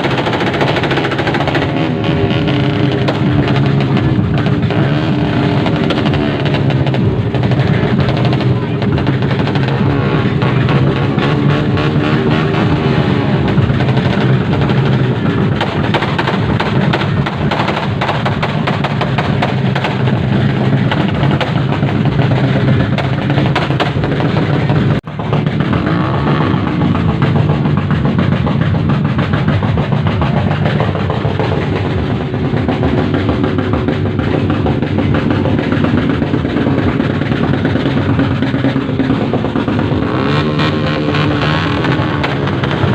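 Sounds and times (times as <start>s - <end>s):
loud music with drum beat: 0.0s - 42.9s.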